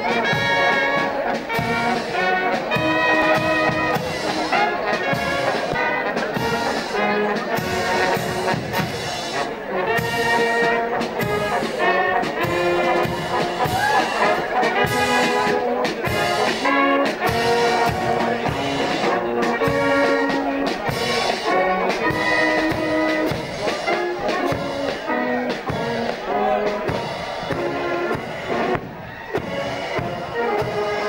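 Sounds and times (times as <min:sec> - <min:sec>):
brass band playing a march: 0:00.0 - 0:31.0
steady drum beat: 0:00.0 - 0:31.0.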